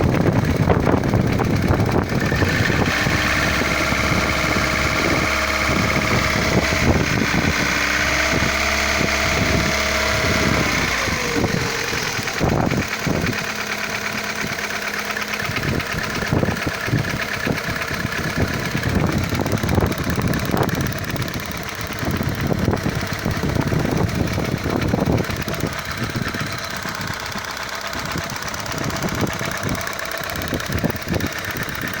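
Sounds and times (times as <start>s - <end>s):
car engine running: 0.0s - 32.0s
engine knocking: 0.0s - 32.0s.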